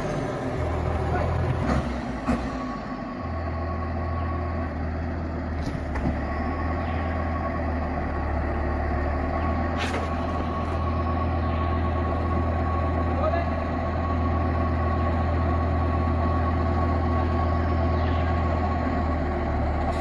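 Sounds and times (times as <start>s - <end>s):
heavy vehicle engine droning: 0.0s - 20.0s.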